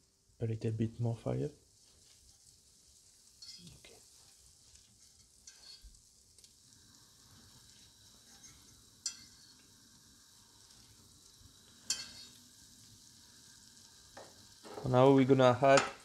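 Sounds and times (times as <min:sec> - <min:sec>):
butter sizzling in a pot: 0:00.0 - 0:16.0.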